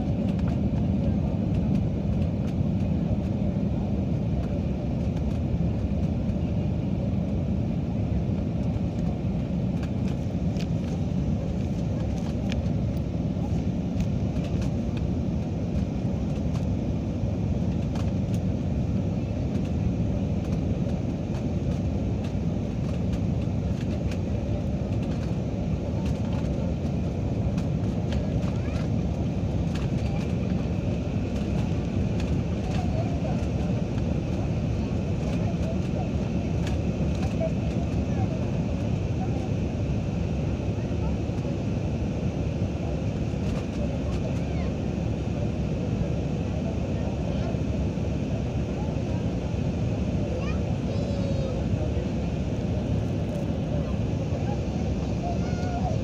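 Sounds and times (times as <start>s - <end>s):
jet engines and rushing air: 0.0s - 56.0s.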